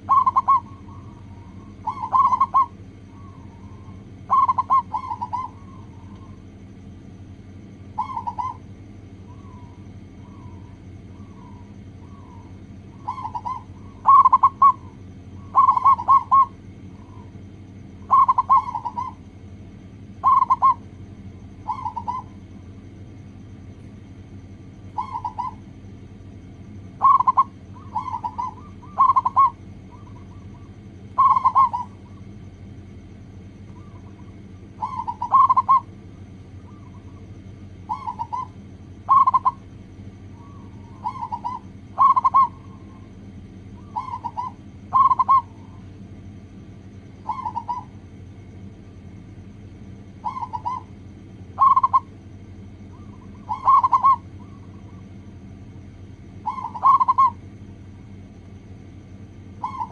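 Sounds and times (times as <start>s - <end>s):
dove cooing: 0.0s - 6.5s, 7.8s - 22.8s, 24.4s - 46.0s, 47.0s - 48.1s, 50.1s - 52.2s, 52.8s - 57.6s, 59.5s - 59.9s
steady low hum: 0.0s - 59.9s.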